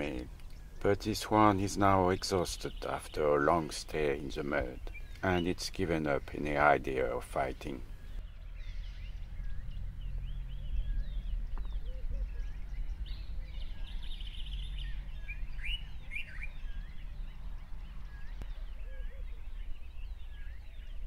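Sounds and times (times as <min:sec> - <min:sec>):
low steady rumble: 0:00.0 - 0:21.0
small birds chirping: 0:00.0 - 0:21.0.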